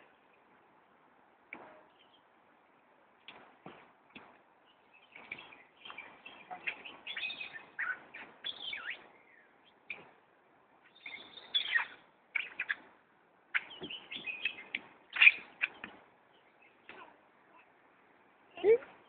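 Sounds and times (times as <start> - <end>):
birds chirping: 1.5 - 19.0.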